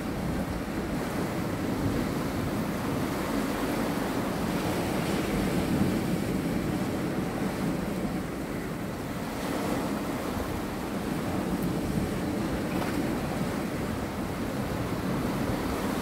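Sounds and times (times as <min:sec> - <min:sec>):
sea waves washing over rocks: 0:00.0 - 0:16.0.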